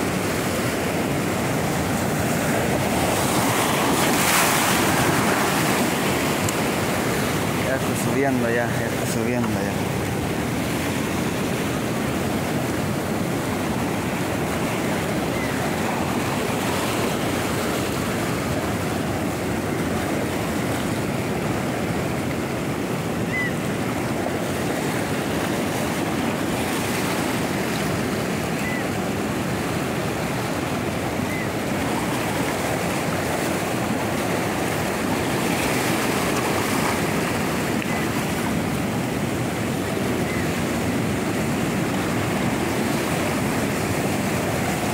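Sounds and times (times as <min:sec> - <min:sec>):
surf breaking over rocks: 0:00.0 - 0:23.1, 0:23.8 - 0:44.9.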